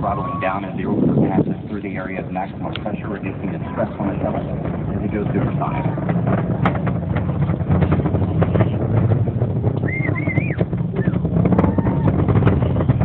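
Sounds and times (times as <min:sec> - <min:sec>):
distant rocket launch rumble: 0:00.0 - 0:13.0.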